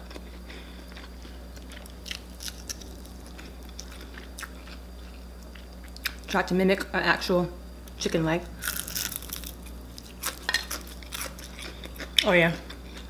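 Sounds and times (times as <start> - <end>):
person chewing: 0.0 - 6.3, 8.6 - 13.0
steady low hum: 0.0 - 13.0.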